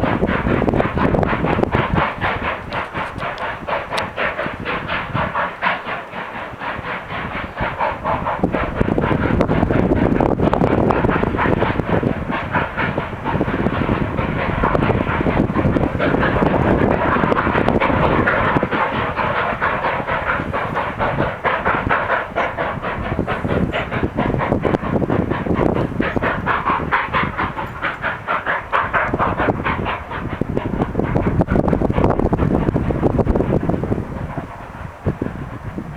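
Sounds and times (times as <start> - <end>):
steam train clattering: 0.0 - 35.9.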